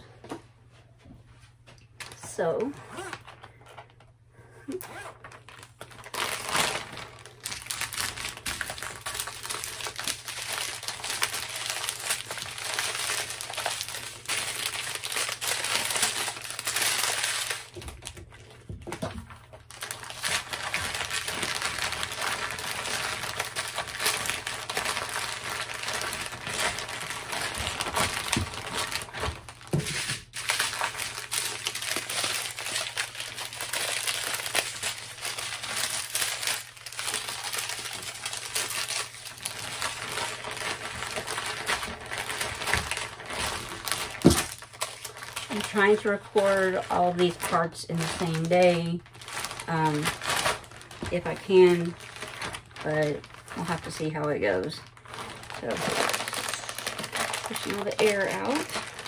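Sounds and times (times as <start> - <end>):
plastic crinkling: 2.0 - 59.0.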